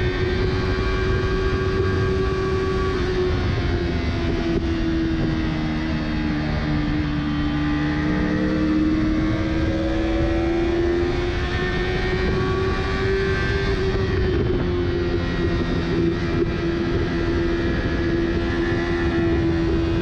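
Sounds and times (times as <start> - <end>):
motorcycle engine at speed: 0.0 - 20.0
wind rush: 0.0 - 20.0.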